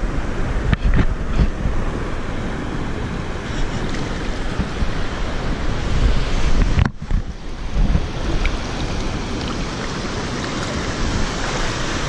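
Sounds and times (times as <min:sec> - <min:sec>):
shallow surf washing: 0:00.0 - 0:12.0
wind rumbling on microphone: 0:00.0 - 0:12.0.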